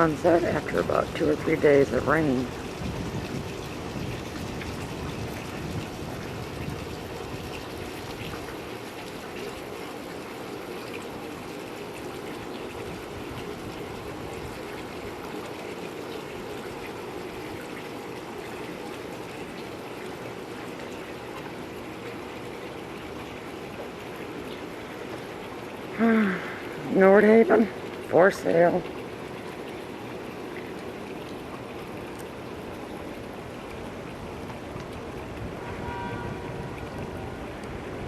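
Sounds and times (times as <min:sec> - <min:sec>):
water rushing and trickling: 0:00.0 - 0:38.0.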